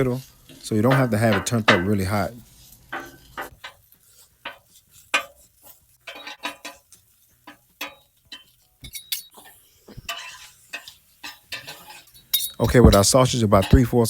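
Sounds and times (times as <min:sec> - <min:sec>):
metal spatula scraping griddle: 0:00.0 - 0:14.0.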